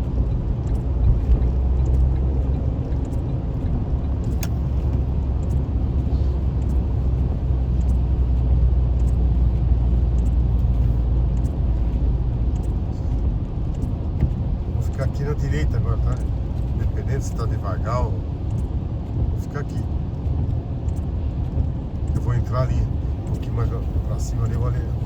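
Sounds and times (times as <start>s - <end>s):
car driving on highway: 0.0s - 25.0s.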